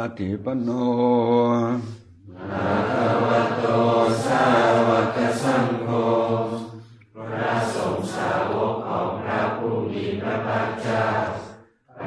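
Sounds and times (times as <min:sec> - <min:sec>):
group chanting in unison: 0:01.6 - 0:12.0.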